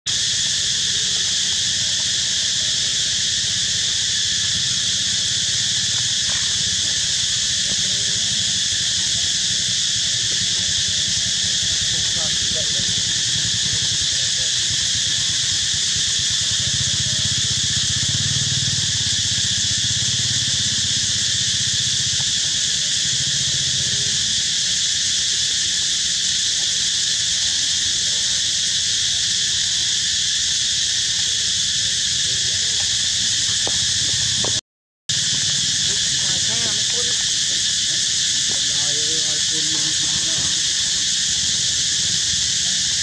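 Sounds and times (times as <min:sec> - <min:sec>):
high-pitched insect drone: 0:00.1 - 0:43.0.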